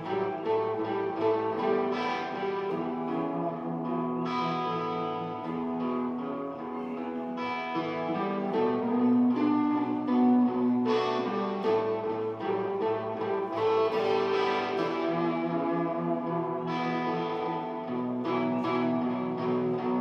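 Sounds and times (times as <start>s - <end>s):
electric guitar playing slow blues: 0.0s - 20.0s.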